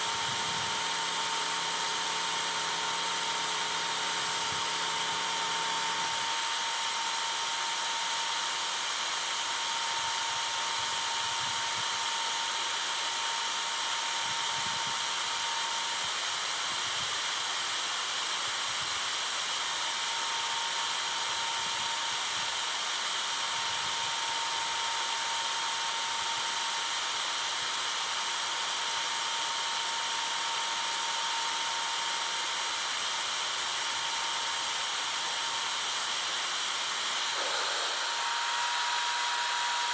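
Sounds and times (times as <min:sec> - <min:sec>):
machine hissing whine: 0:00.0 - 0:39.9.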